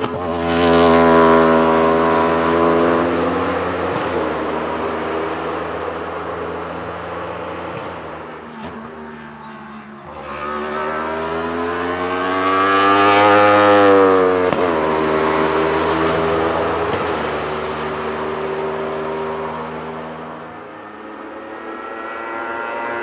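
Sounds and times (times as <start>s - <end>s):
race car passing at speed: 0.0s - 23.0s.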